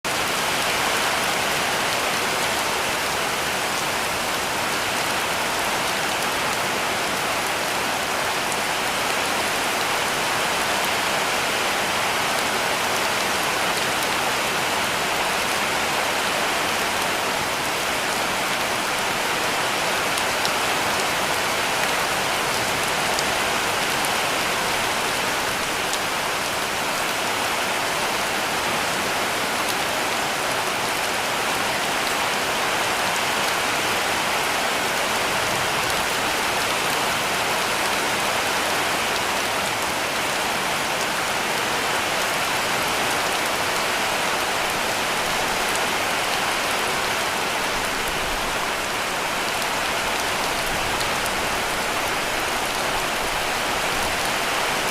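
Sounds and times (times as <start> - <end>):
heavy rain on a roof: 0.0 - 54.9.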